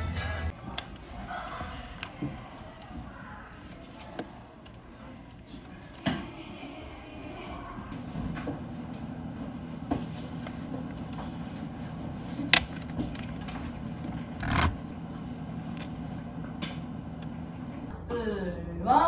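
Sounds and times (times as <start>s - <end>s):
low room hum: 0.2s - 19.0s.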